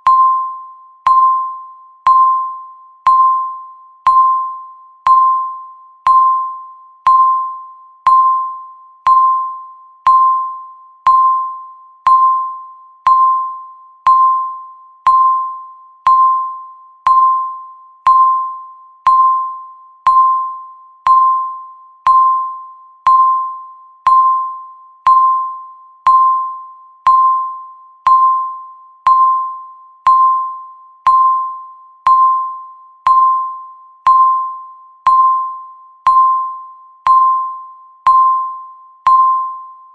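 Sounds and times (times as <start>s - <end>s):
countdown timer electronic beeps: 0.0s - 39.9s.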